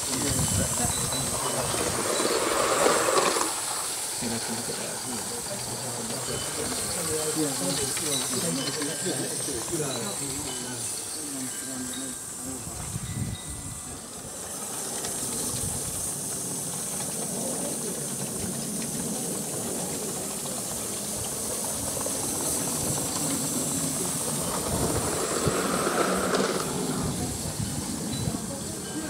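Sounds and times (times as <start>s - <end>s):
model train wheels rumbling: 0.0s - 29.0s
steam hissing: 0.0s - 29.0s.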